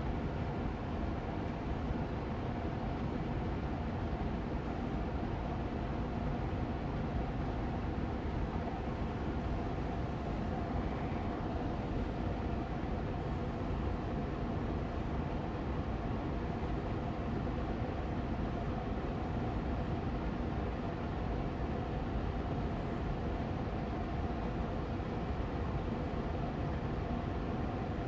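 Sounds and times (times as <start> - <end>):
air purifier fan running: 0.0 - 28.0.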